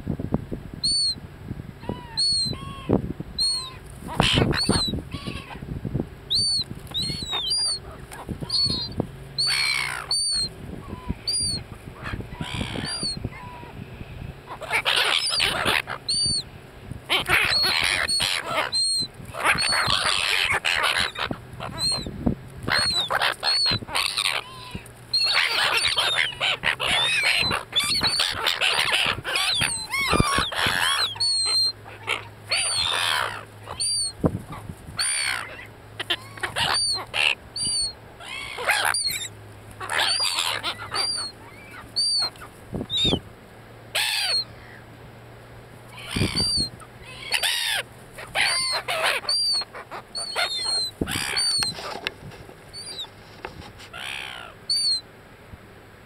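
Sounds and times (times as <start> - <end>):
gulls calling: 0.8 - 1.2, 1.8 - 45.0, 45.7 - 55.2.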